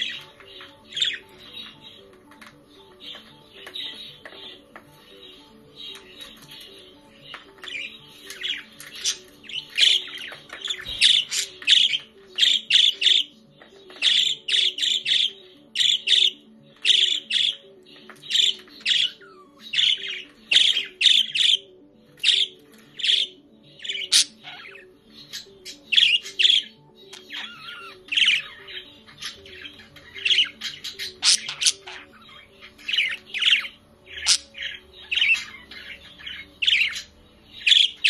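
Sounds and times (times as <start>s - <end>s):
budgerigars chirping and squawking: 0.0s - 38.0s
soft background music: 0.0s - 38.0s.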